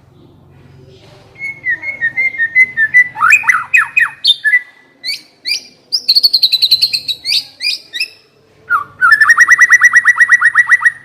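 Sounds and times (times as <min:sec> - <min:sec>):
songbird singing: 0:00.9 - 0:11.0.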